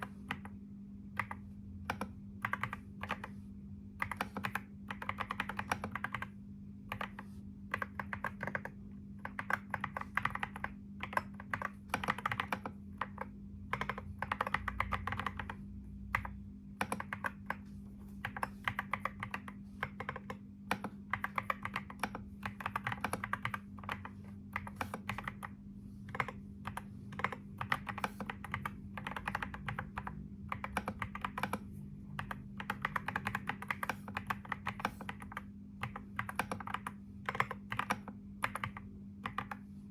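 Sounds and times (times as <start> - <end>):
steady low hum: 0.0 - 39.9
keyboard keystroke clicks: 1.2 - 3.3, 4.0 - 6.3, 6.9 - 17.6, 18.2 - 39.6.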